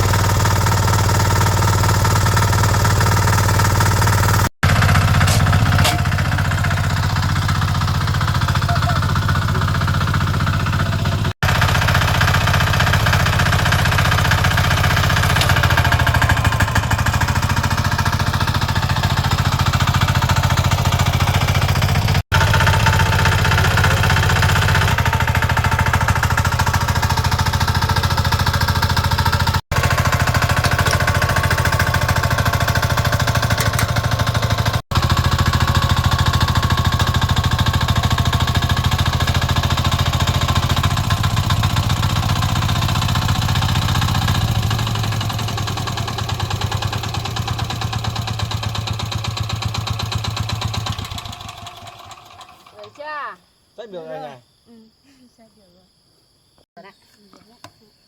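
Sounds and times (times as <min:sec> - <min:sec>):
diesel engine knocking: 0:00.0 - 0:52.6.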